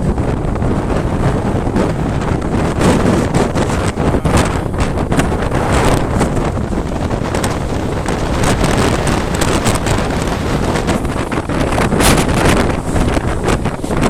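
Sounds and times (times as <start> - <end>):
gusting wind buffeting microphone: 0.0 - 14.0.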